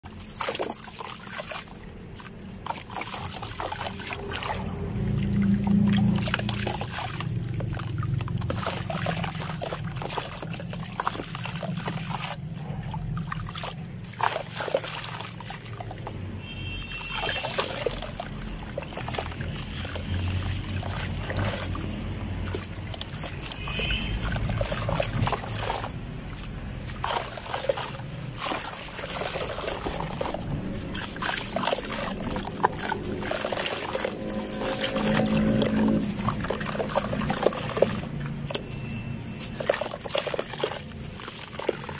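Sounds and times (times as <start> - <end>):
water sloshing and splashing: 0.0 - 41.9.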